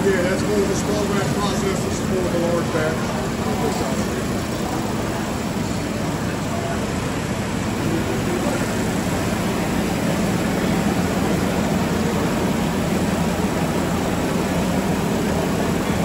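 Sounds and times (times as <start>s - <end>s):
factory machinery drone: 0.0s - 16.0s.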